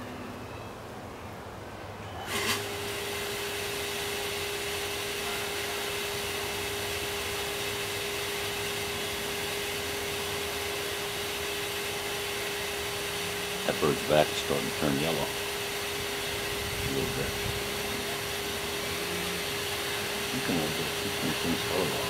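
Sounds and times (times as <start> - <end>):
machine running with hum: 2.3 - 22.0.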